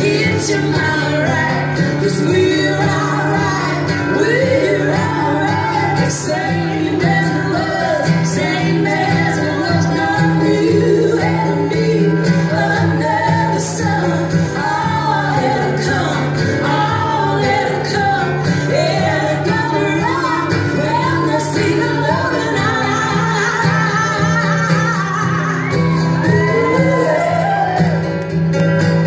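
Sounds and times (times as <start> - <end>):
voices singing: 0.0 - 28.0
strummed acoustic guitar: 0.0 - 29.0.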